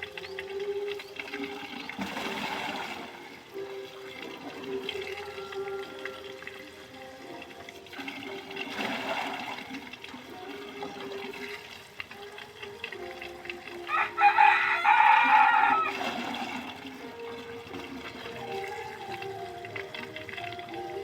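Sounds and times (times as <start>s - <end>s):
water gushing: 0.0s - 21.0s.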